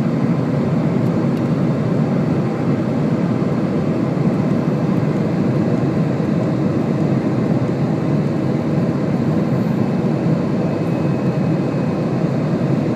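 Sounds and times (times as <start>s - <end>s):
jet engines droning: 0.0s - 12.9s.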